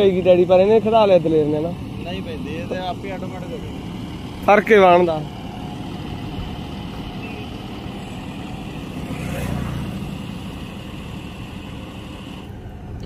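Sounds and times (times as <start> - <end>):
distant tractor engine running: 0.0 - 13.0.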